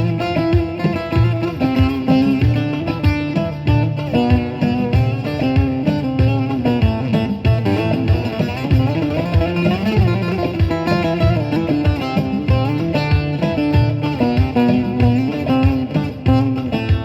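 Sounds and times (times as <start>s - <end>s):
plucked saz dance tune: 0.0s - 17.0s
steady low beat: 0.0s - 17.0s.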